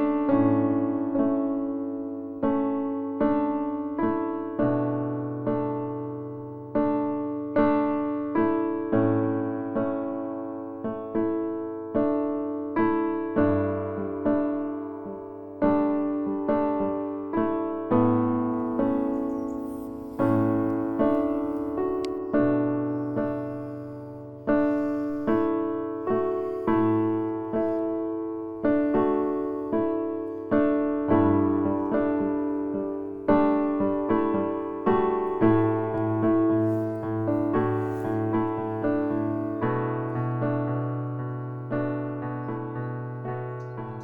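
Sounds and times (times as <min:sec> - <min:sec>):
soft piano melody: 0:00.0 - 0:44.0.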